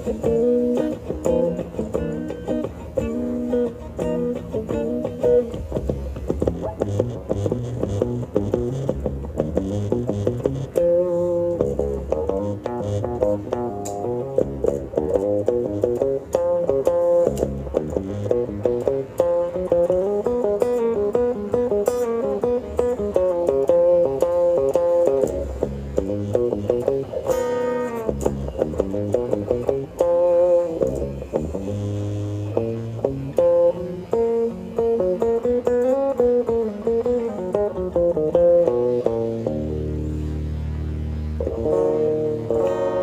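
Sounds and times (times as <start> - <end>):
plucked melody over bass line: 0.0 - 43.0.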